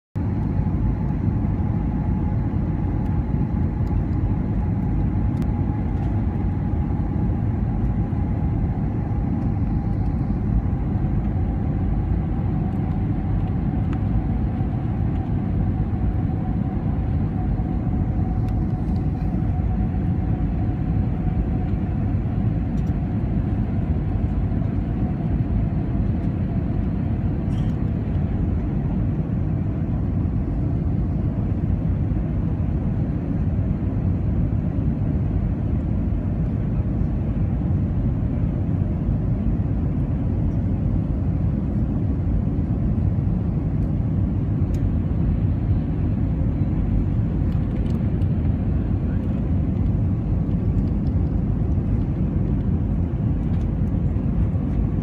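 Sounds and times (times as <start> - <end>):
faint whine: 0.2 - 55.0
jet engines and rushing air: 0.2 - 55.0.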